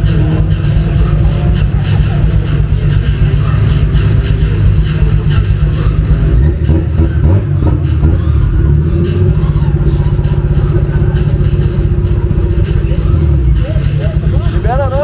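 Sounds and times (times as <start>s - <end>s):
loud car engine idling: 0.0s - 15.0s.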